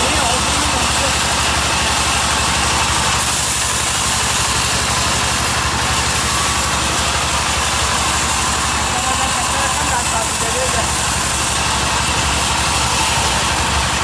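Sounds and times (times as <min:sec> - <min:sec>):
sawmill machinery low throb: 0:00.0 - 0:14.0.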